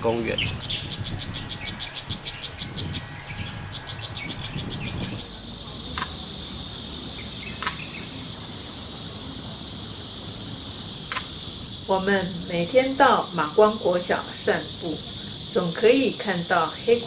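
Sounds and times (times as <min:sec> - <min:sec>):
birds chirping: 0:00.0 - 0:17.0
high insect hiss: 0:00.0 - 0:17.0
insects pulsing buzz: 0:00.0 - 0:17.0.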